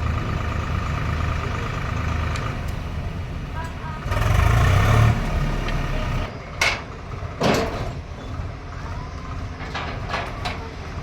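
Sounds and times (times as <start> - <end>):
combine harvester engine rumbling: 0.0 - 11.0.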